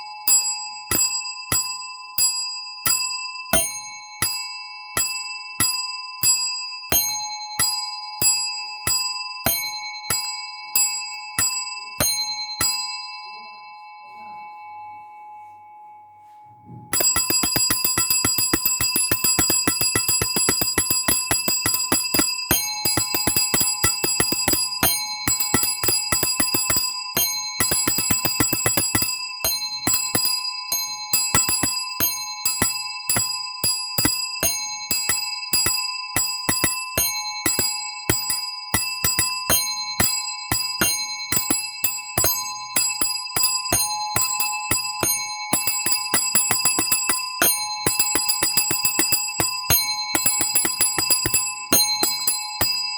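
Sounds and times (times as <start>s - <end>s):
bell ringing rapidly: 2.9s - 13.0s, 17.0s - 52.9s.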